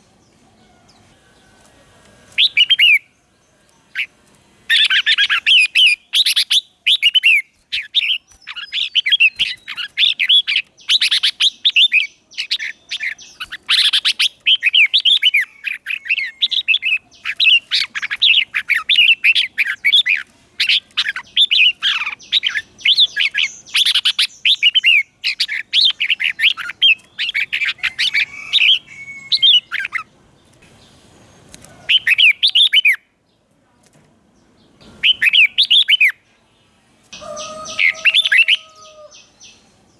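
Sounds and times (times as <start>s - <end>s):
bulbul singing chattering phrases: 2.3s - 31.0s, 31.9s - 33.2s, 34.8s - 39.9s.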